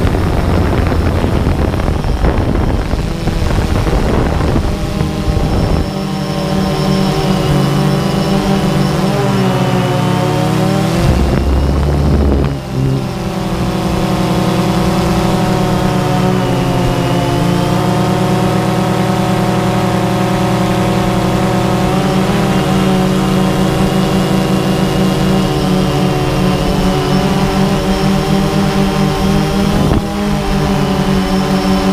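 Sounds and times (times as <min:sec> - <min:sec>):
drone motors buzzing whine: 0:00.0 - 0:31.9
low wind rumble: 0:00.0 - 0:31.9.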